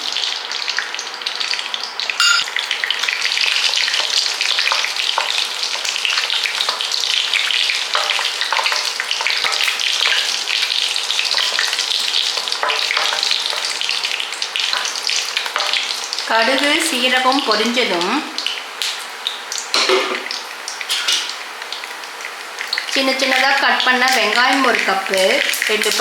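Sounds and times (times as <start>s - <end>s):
seeds spluttering in hot oil: 0.0s - 26.0s.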